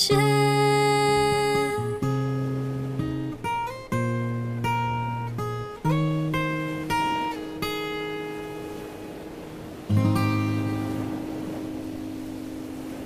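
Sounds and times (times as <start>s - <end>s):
acoustic guitar plucked: 0.0s - 13.0s.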